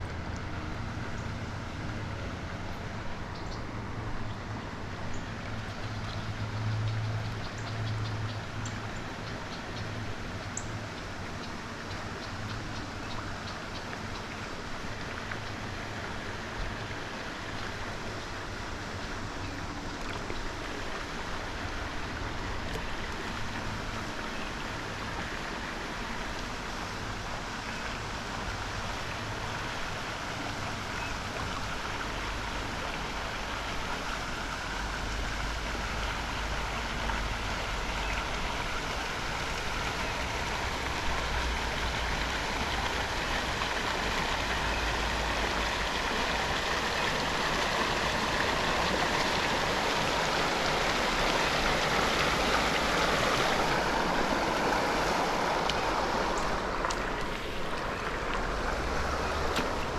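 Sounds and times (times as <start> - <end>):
water splashing along kayak: 0.0 - 59.9.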